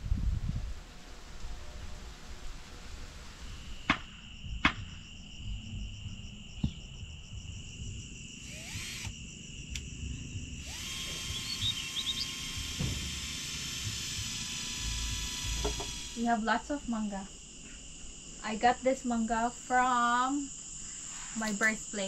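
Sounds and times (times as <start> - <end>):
insects trilling: 1.6 - 22.0.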